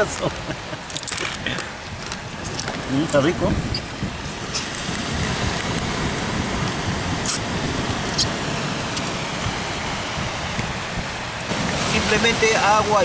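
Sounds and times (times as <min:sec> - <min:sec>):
sea surf on rocky shore: 0:00.0 - 0:13.0.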